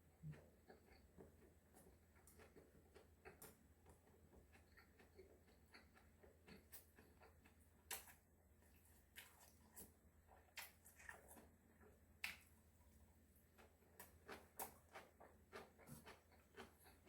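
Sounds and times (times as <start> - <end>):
person chewing food: 0.1 - 17.0.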